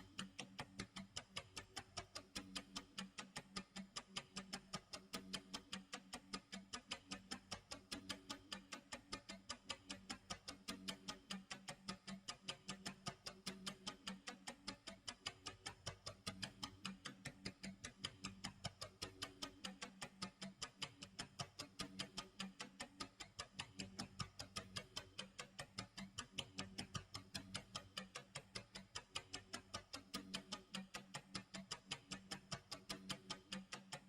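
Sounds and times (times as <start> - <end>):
fast clock ticking: 0.0 - 34.0.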